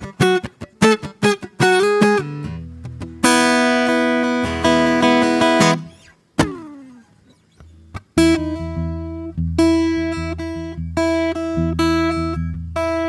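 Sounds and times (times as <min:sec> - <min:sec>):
fingerpicked acoustic guitar: 0:00.0 - 0:13.0.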